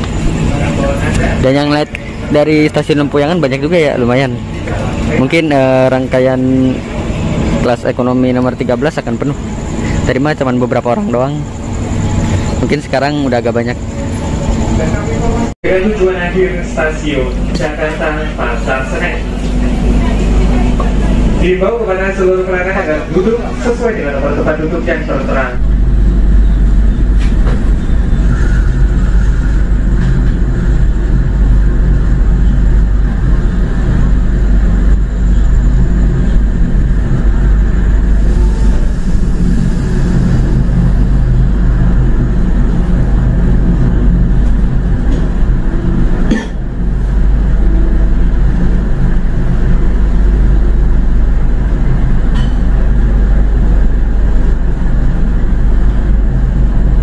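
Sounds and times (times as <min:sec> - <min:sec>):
train rumble and hum: 0:00.0 - 0:57.0.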